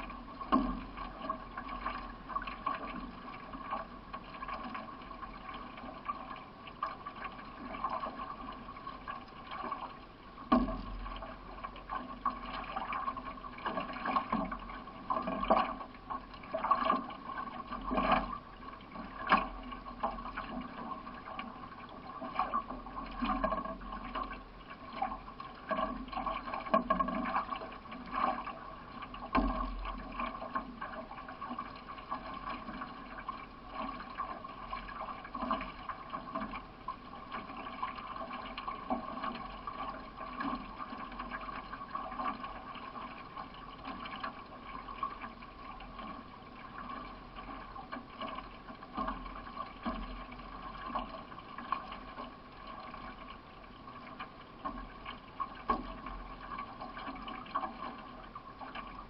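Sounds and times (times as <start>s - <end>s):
water noise around hull: 0.0s - 59.0s.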